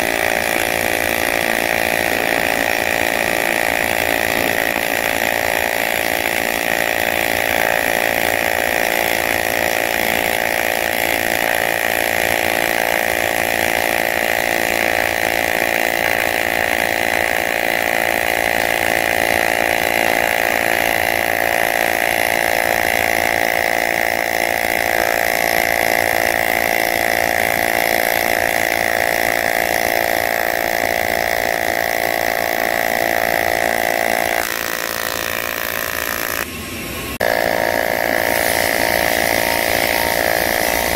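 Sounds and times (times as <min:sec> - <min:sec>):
welding arc buzzing: 0:00.0 - 0:40.9.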